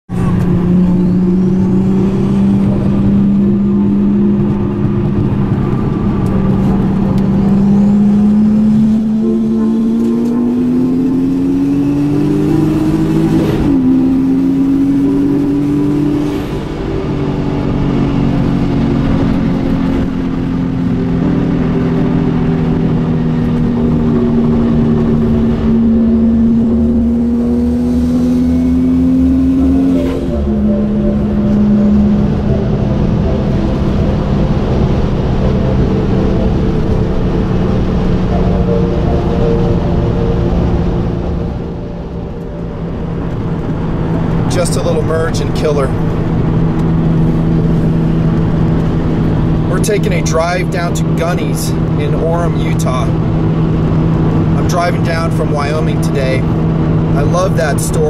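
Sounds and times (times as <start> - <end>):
car engine accelerating and shifting: 0.0 - 58.0.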